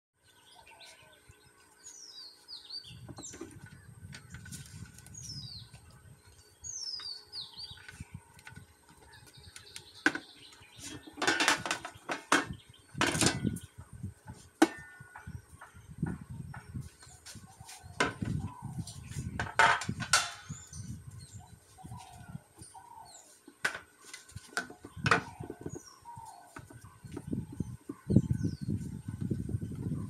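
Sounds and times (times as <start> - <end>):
birds chirping: 0.2 - 30.0.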